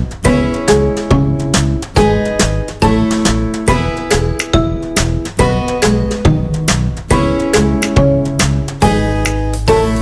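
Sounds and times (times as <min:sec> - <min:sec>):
background music with regular beat: 0:00.0 - 0:10.0.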